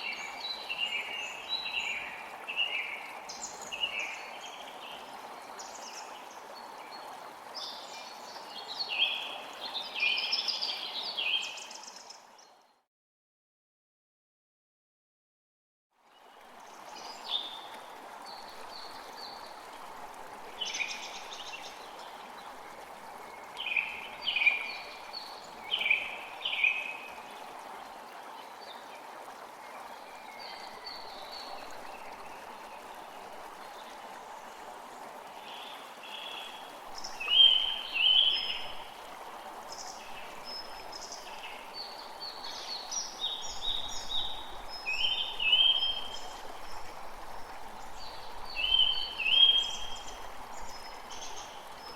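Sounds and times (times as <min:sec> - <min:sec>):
creek flowing: 0:00.0 - 0:12.7, 0:16.0 - 0:51.9.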